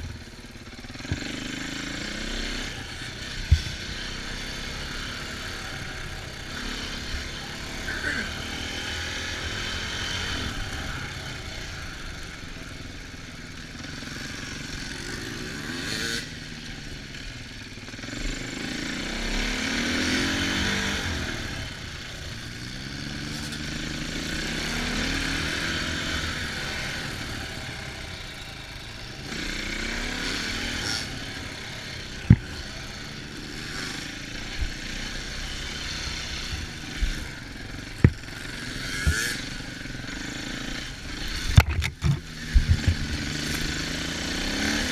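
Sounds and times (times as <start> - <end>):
small off-road engine revving: 0.0 - 44.9.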